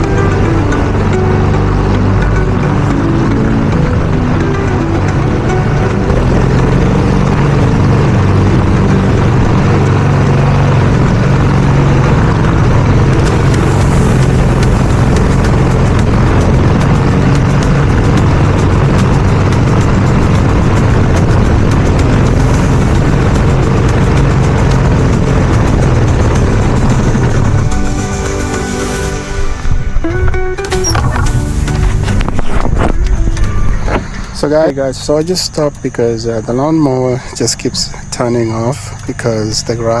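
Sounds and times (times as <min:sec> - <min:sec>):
lawn mower engine cutting grass: 0:00.0 - 0:30.0, 0:30.7 - 0:40.0.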